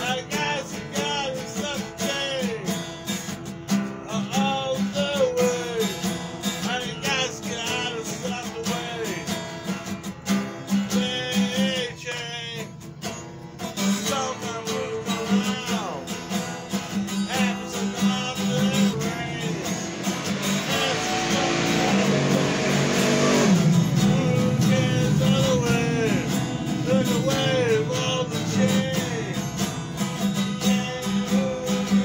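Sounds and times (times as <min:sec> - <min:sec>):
man singing: 0:00.0 - 0:02.9, 0:04.0 - 0:09.6, 0:10.7 - 0:13.2, 0:13.8 - 0:32.0
acoustic guitar strumming: 0:00.0 - 0:32.0.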